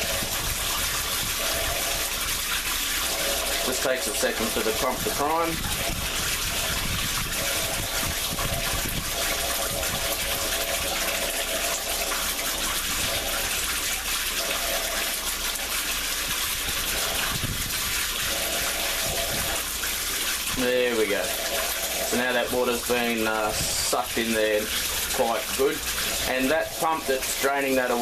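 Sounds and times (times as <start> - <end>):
drain pump humming: 0.0 - 28.0
shower spray running: 0.0 - 28.0.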